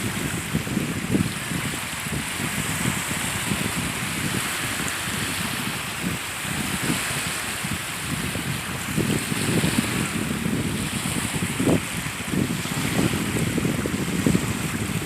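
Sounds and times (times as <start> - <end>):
sea water lapping at shore: 0.0 - 15.0
wind on microphone: 0.0 - 15.0.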